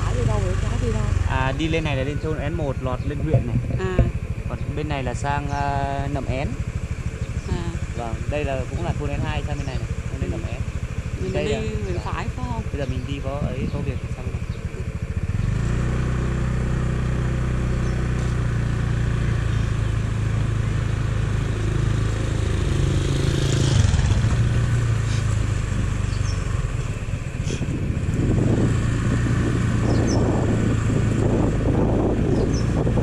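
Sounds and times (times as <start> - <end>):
wind rumbling on microphone: 0.0 - 15.8, 17.7 - 33.0
motorcycle engine running: 0.0 - 33.0.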